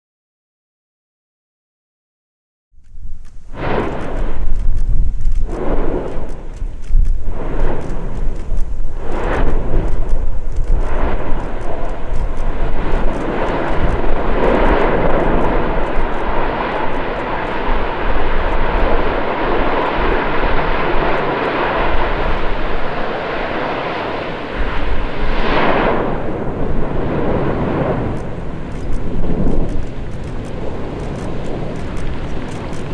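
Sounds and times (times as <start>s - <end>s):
volcano rushing rumble: 2.8s - 32.9s.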